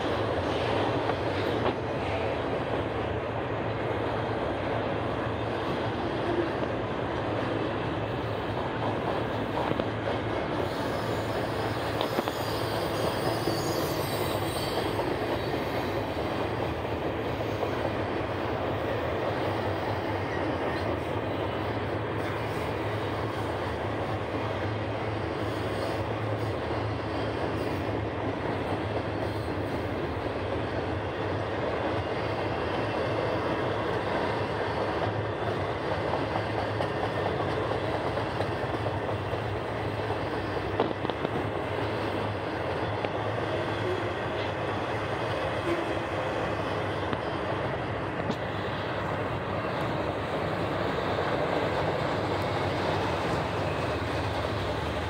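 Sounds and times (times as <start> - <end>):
steel wheels rolling on rail: 0.0 - 55.0.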